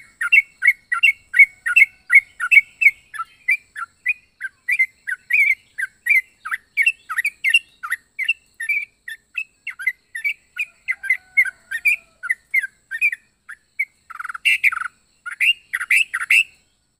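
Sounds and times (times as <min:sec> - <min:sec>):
bird chirping: 0:00.0 - 0:16.9.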